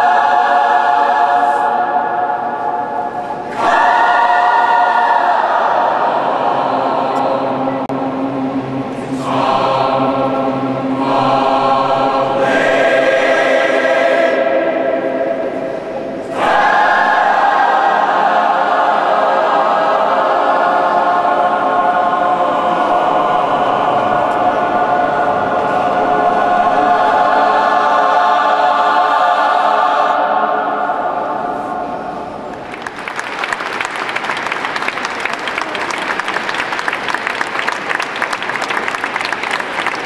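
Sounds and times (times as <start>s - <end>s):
choir singing sustained chords: 0.0s - 33.0s.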